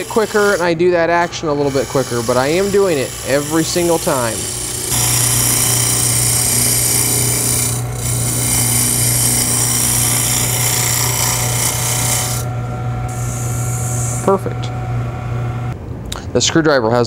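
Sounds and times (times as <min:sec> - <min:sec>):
gouge cutting wood on lathe: 0:00.0 - 0:14.6
lathe motor hum: 0:00.0 - 0:15.8.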